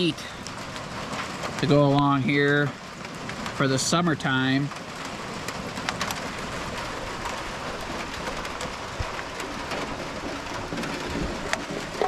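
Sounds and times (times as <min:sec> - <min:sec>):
rain on a metal roof: 0:00.0 - 0:12.0
water running into gutter: 0:00.0 - 0:12.0.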